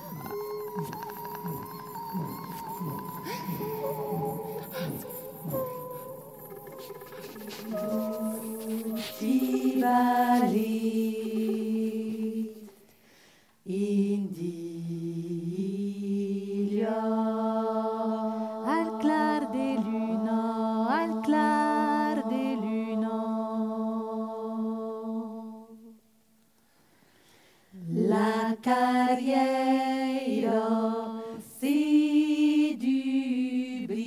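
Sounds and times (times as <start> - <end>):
women singing a cappella: 0.0 - 12.9, 13.6 - 26.0, 27.8 - 34.0.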